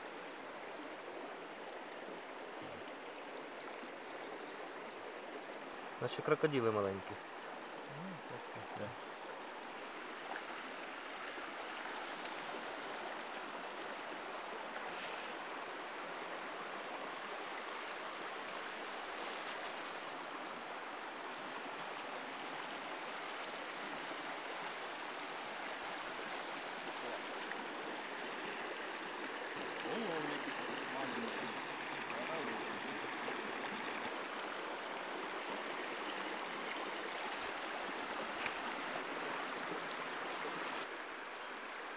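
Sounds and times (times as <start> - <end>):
river flowing over rocks: 0.0 - 41.9.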